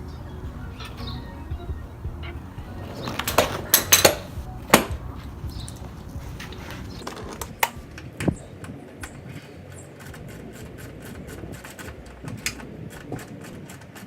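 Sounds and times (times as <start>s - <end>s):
hand tools clanking on metal: 0.0s - 14.0s.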